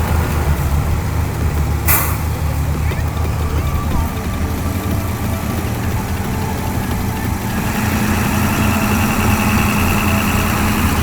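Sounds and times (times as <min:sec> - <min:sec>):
large engine running: 0:00.0 - 0:11.0.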